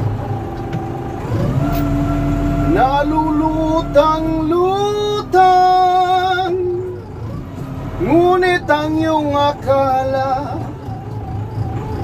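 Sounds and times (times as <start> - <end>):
forklift engine hum: 0.0 - 12.0.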